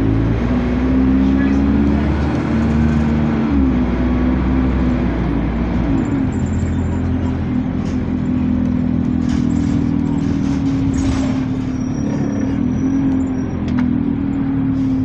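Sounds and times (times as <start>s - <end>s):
bus engine drone: 0.0s - 15.0s
road noise: 0.0s - 15.0s.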